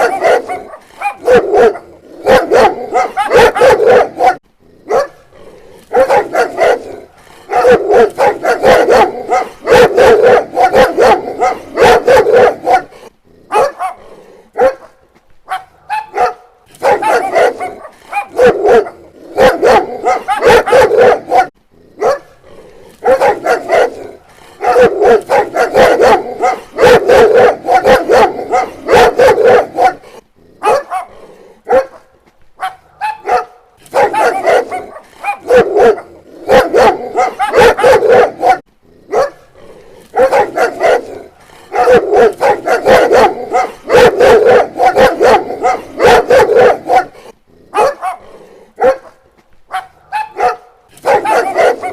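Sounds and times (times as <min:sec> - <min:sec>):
dog barking rapidly: 0:00.0 - 0:05.2, 0:05.9 - 0:14.0, 0:14.6 - 0:22.4, 0:23.0 - 0:39.5, 0:40.1 - 0:51.9.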